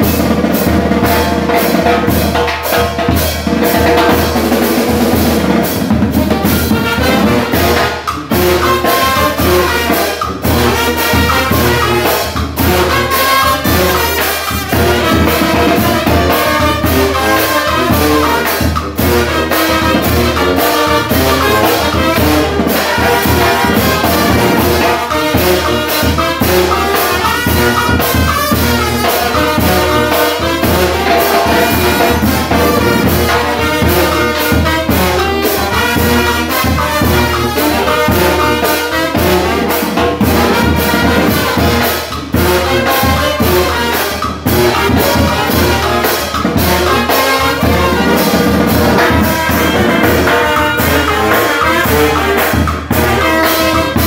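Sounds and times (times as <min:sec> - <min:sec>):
brass band playing: 0:00.0 - 0:54.0
drums and cymbal beat: 0:00.0 - 0:54.0.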